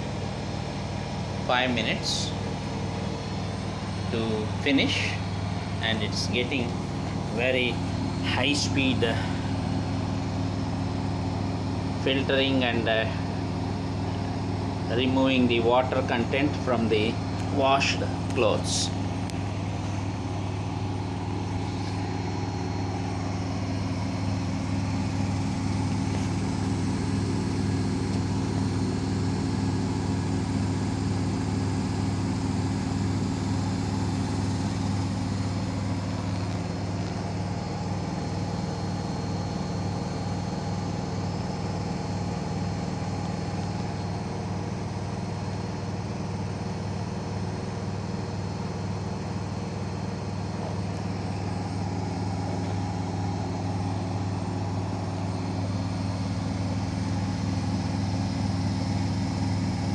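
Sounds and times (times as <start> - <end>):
washing machine spinning hum: 0.0 - 59.9.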